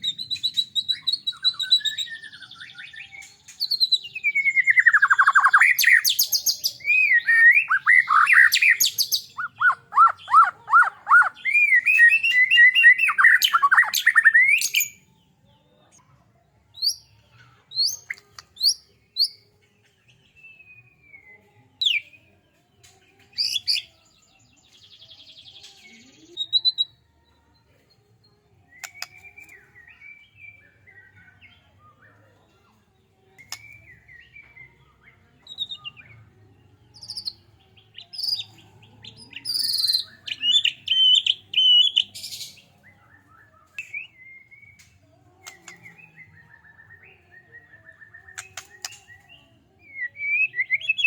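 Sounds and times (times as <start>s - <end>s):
bird singing whistles and trills: 0.0s - 15.1s, 17.7s - 19.4s, 20.1s - 22.3s, 23.3s - 27.0s, 28.7s - 32.3s, 33.3s - 51.0s.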